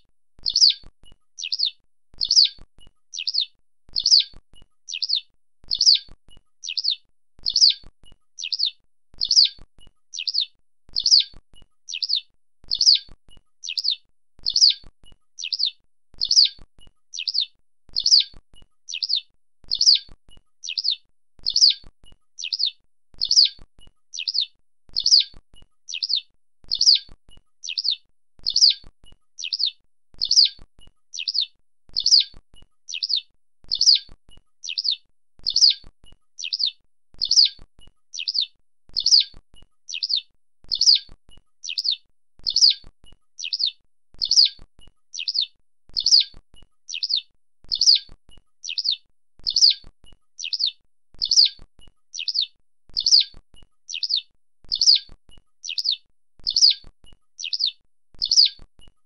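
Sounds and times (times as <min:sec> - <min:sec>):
skylark calling: 0:00.4 - 0:07.8, 0:08.4 - 0:21.8, 0:22.4 - 0:28.8, 0:29.4 - 0:35.8, 0:36.4 - 0:42.8, 0:43.4 - 0:49.8, 0:50.4 - 0:56.8, 0:57.4 - 0:58.6.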